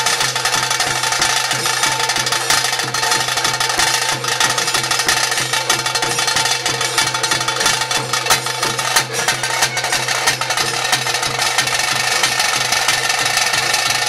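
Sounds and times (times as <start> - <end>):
fast dense drumming: 0.0 - 14.0.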